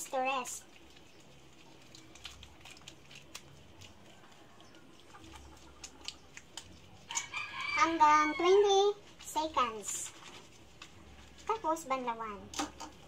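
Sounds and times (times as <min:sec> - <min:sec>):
soapy hands rubbing together: 0:00.0 - 0:08.0, 0:08.6 - 0:12.0.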